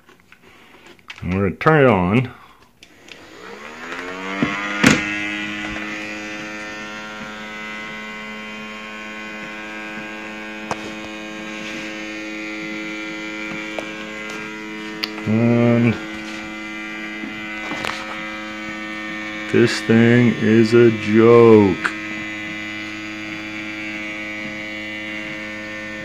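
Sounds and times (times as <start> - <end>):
small motor humming: 2.8 - 26.0.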